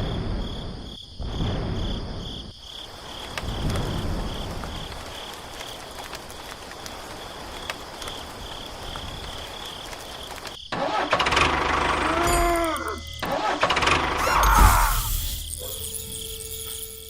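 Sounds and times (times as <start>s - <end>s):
insects trilling: 0.0s - 17.0s
outdoor background noise: 0.0s - 17.0s.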